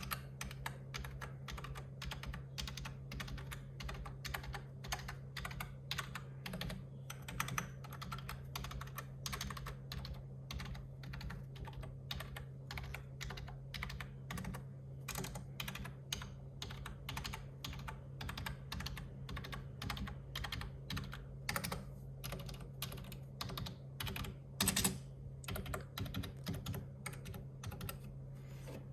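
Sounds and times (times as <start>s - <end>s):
computer keyboard typing: 0.0s - 28.1s.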